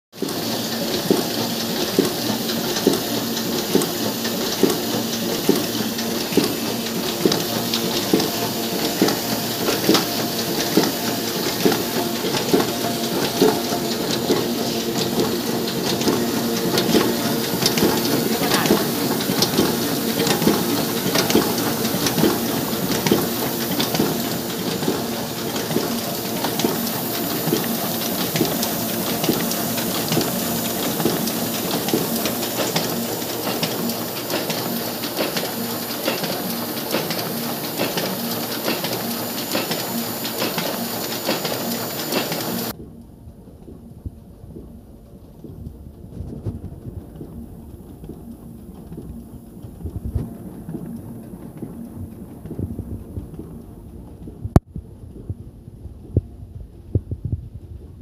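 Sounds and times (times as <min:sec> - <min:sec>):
printing machine clatter and hum: 0:00.2 - 0:58.0.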